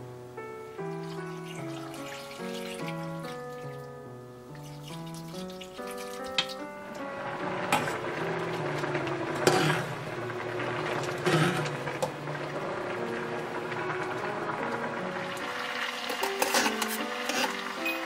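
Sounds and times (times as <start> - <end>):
background music: 0.0 - 18.0
water bubbling and sloshing in pot: 0.9 - 3.8, 4.6 - 6.6, 7.6 - 17.8.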